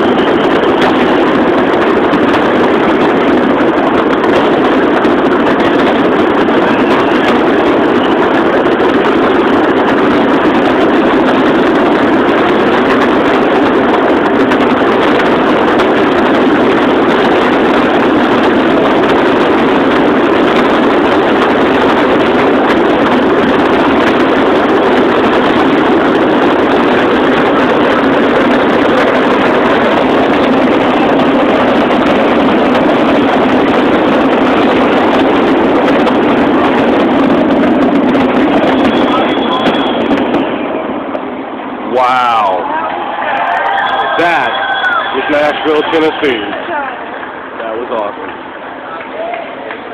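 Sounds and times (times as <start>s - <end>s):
fireworks barrage roaring: 0.0s - 49.9s.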